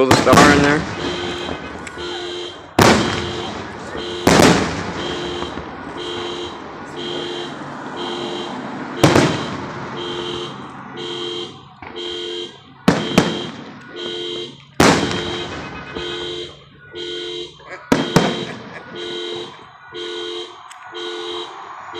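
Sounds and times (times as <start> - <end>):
fireworks bursting with bangs: 0.0 - 19.8
electronic alarm beeping: 0.0 - 21.9.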